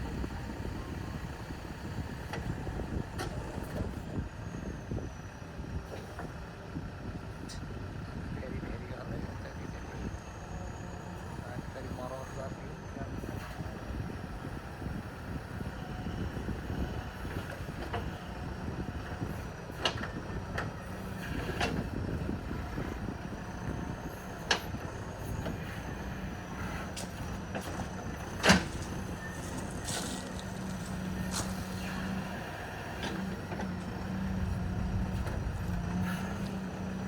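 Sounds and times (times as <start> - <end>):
diesel engine working: 0.0 - 37.0.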